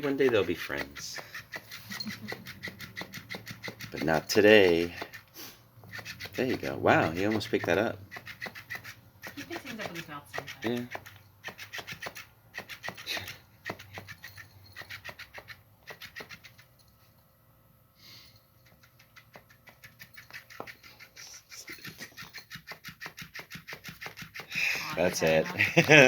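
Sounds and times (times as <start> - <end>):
toy motor rasping: 0.0 - 16.8, 18.1 - 26.0.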